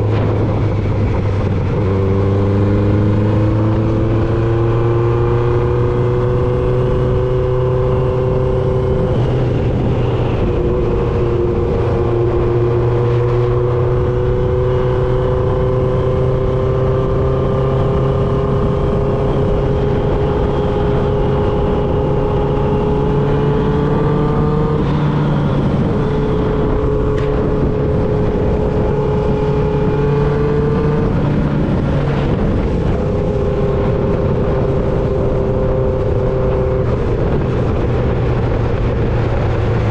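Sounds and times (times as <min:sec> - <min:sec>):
motorcycle engine while riding: 0:00.0 - 0:39.9
wind and road noise: 0:00.0 - 0:39.9.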